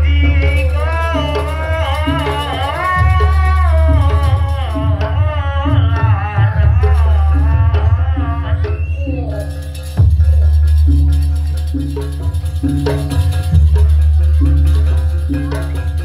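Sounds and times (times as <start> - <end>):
deep drum beats: 0.0 - 16.0
wavering high melody: 0.0 - 16.0.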